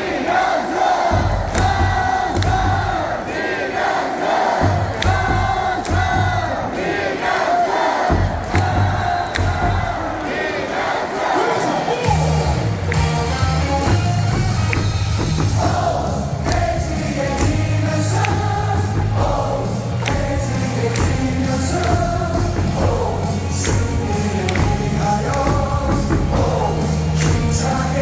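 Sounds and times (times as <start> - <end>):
crowd singing along: 0.0 - 28.0
music over loudspeakers: 1.1 - 3.3, 4.6 - 6.8, 8.1 - 10.2, 11.4 - 28.0.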